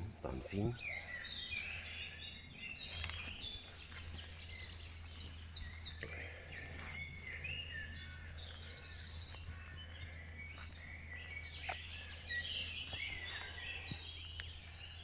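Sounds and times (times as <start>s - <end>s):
songbirds singing: 0.0s - 15.0s
steady low hum: 0.0s - 15.0s.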